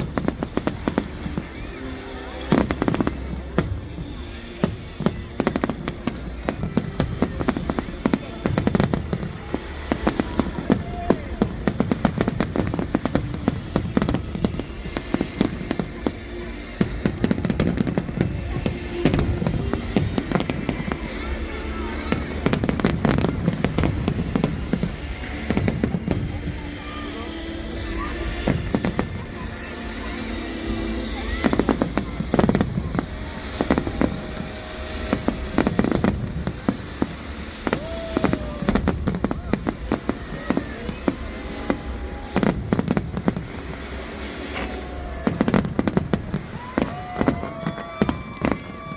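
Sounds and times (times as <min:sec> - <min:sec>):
fireworks bangs and crackles: 0:00.0 - 0:48.9
music: 0:00.0 - 0:48.9
steady low rumble: 0:00.0 - 0:48.9.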